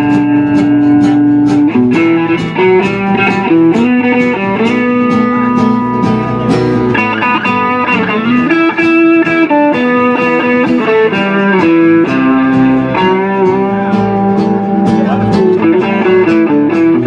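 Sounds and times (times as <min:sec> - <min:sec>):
mandolin: 0:00.0 - 0:17.0
plucked guitar: 0:00.0 - 0:17.0.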